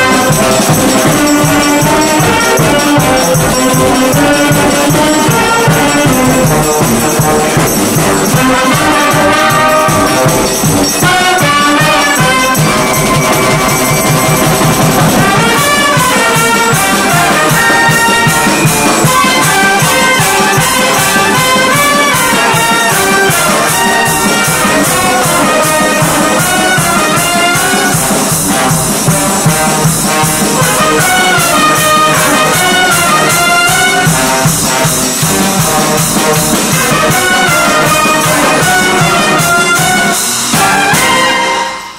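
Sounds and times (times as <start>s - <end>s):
brass band playing: 0.0s - 41.9s
high percussion beat: 0.0s - 41.9s.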